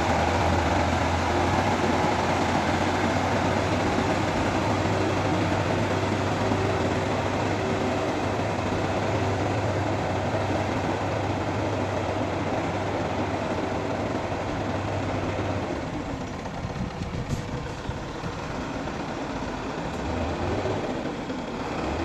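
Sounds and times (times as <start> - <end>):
heavy engine humming: 0.0 - 22.0.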